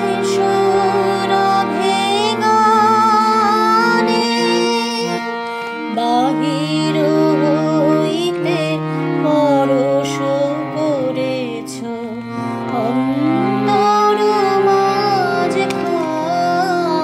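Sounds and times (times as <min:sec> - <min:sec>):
held accompaniment notes: 0:00.0 - 0:17.0
woman singing devotional song: 0:00.0 - 0:17.0.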